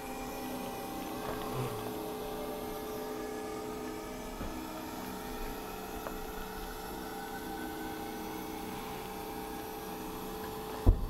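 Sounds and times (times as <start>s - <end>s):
electric truck hum: 0.0s - 11.0s.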